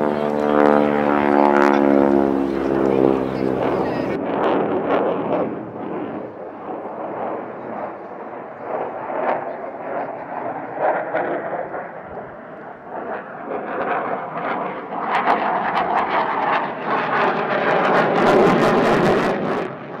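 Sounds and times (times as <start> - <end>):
airplane flying past: 0.0 - 20.0.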